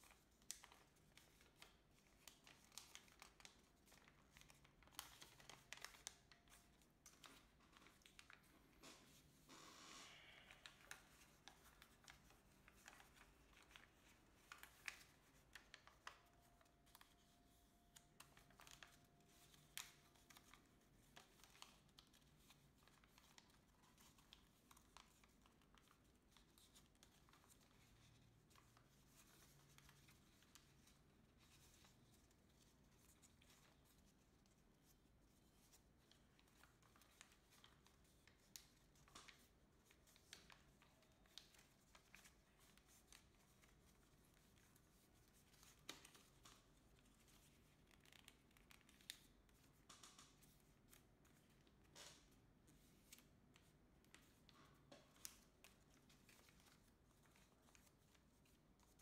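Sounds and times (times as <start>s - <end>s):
paper crinkling being folded: 0.0s - 9.5s, 10.1s - 59.0s.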